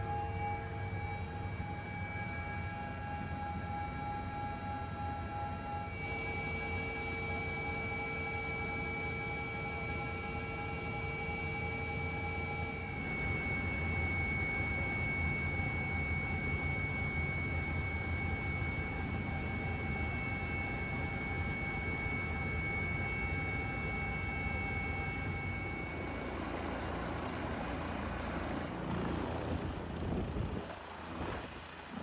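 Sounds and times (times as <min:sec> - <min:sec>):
engine and rotor rumble: 0:00.0 - 0:32.0
helicopter turbine whine: 0:00.0 - 0:32.0.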